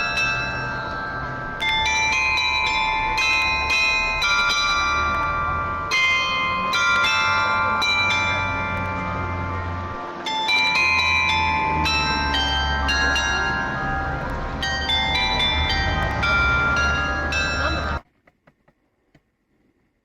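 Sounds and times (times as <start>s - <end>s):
bell-like chimes melody: 0.0s - 18.0s.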